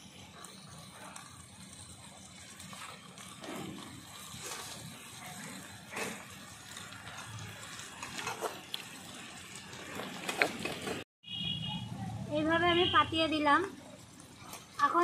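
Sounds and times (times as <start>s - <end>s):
frying sizzle: 0.0s - 11.0s, 12.2s - 15.0s.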